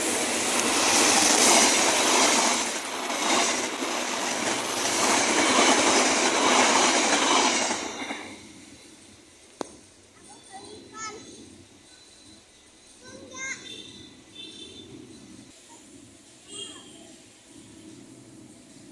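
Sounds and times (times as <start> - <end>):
train wheels rushing on rails: 0.0 - 18.9.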